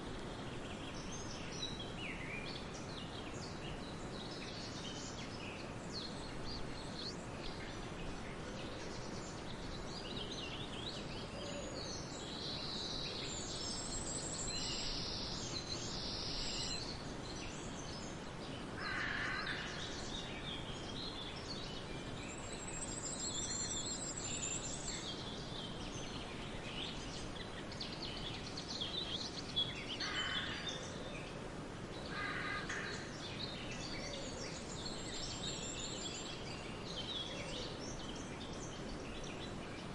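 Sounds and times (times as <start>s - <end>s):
birds singing and calling: 0.0s - 39.9s
steady background hiss: 0.0s - 39.9s.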